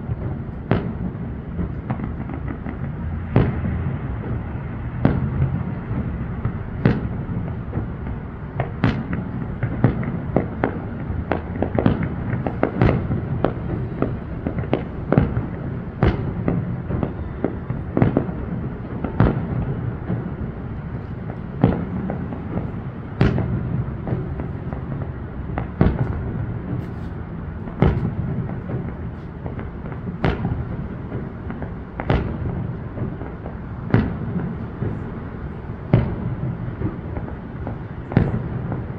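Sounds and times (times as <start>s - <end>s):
fireworks booms and bangs: 0.0s - 38.9s.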